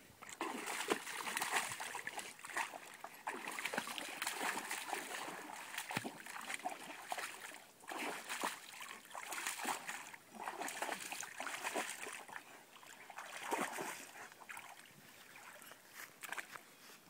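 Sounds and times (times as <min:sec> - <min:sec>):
dog splashing in muddy water: 0:00.2 - 0:16.5.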